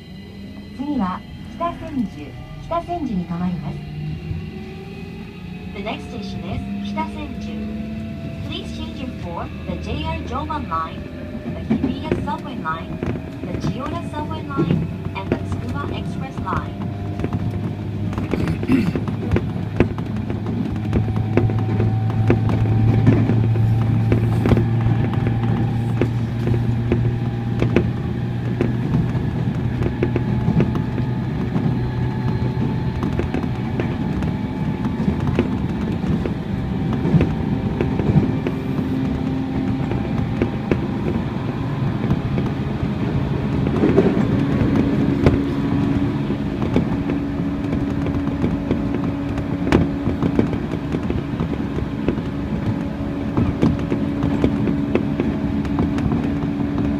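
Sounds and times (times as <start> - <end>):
electric train motor whine: 0.0 - 56.9
strong low hum: 0.0 - 56.9
wheel rumble: 0.0 - 56.9.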